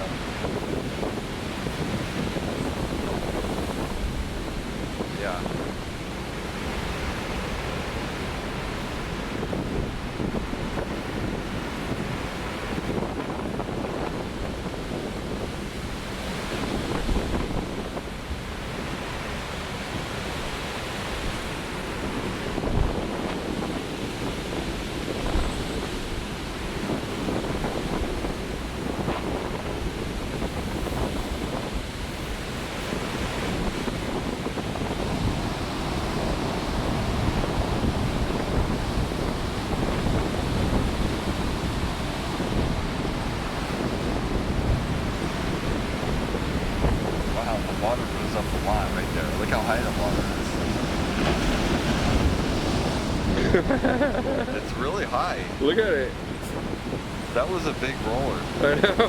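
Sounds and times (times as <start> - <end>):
surf breaking and rushing: 0.0 - 59.0
wind buffeting microphone: 0.0 - 59.0.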